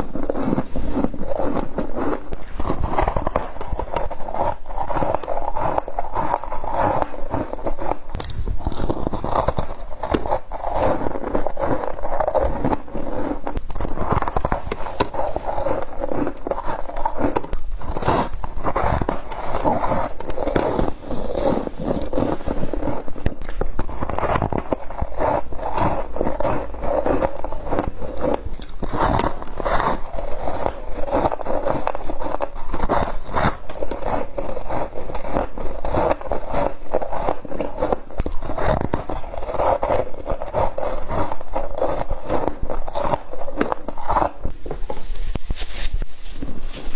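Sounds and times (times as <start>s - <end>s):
frost being bitten and chewed: 0.0s - 44.6s.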